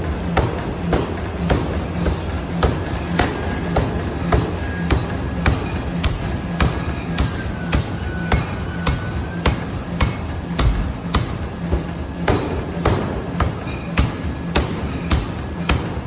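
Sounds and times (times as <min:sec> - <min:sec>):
forging shop din: 0:00.0 - 0:16.0
power hammer striking metal: 0:00.0 - 0:16.0.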